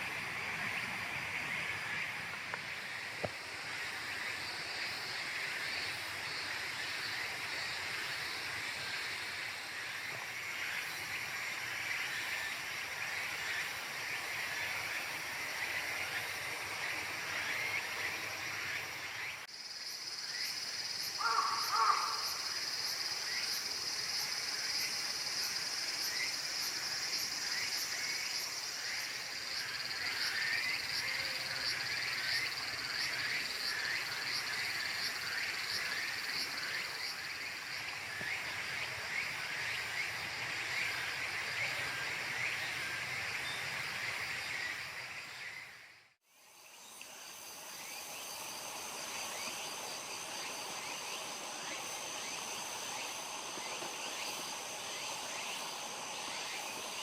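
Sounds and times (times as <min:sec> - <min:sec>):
frogs and insects chirping: 0:00.0 - 0:57.0.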